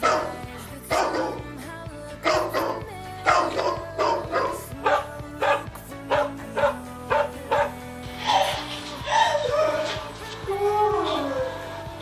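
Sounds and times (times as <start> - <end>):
dog barking: 0.0 - 1.5, 2.2 - 11.8
background music: 0.0 - 12.0.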